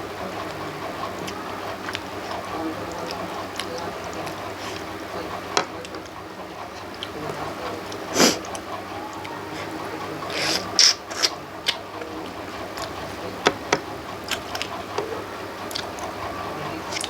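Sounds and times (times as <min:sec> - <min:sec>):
steady background hum: 0:00.0 - 0:17.0
mouth chewing clicks: 0:00.3 - 0:17.0.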